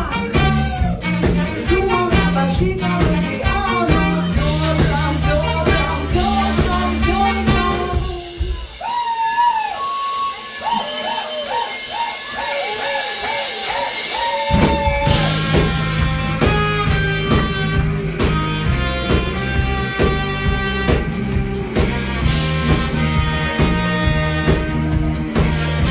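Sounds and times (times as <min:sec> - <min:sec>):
bass and drums: 0:00.0 - 0:25.9
pop-rock band playing live: 0:00.0 - 0:25.9.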